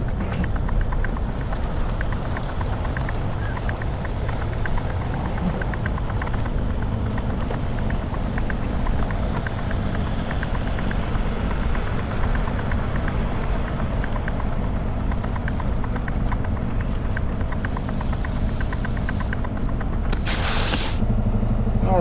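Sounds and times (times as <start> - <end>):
light ticks: 0.0 - 21.0
diesel truck engine idling: 0.0 - 22.0.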